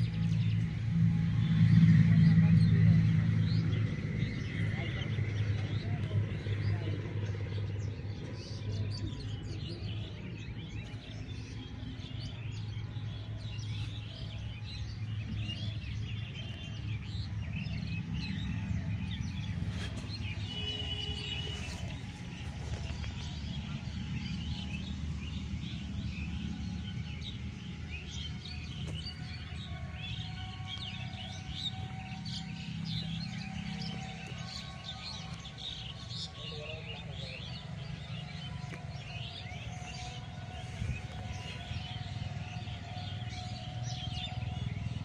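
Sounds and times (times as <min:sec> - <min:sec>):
birds chirping and calling: 0:04.8 - 0:45.0.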